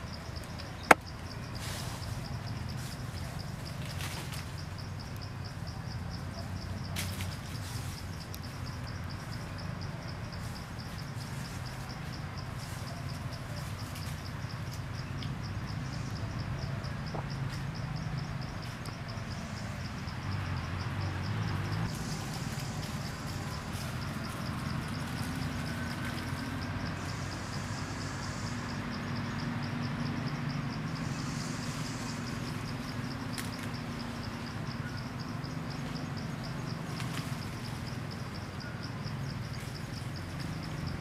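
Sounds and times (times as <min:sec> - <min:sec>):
insect chirping: 0:00.0 - 0:41.0.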